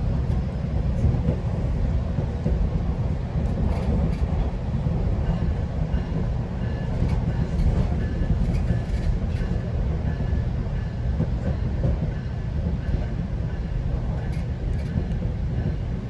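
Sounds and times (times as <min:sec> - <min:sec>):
train rumbling along track: 0:00.0 - 0:16.0
rail clicks: 0:00.2 - 0:16.0.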